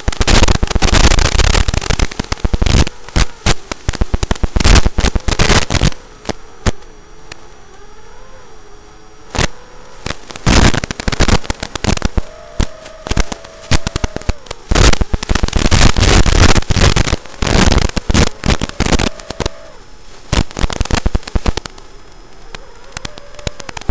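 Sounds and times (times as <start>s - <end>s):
loud crackling static: 0.0s - 23.9s.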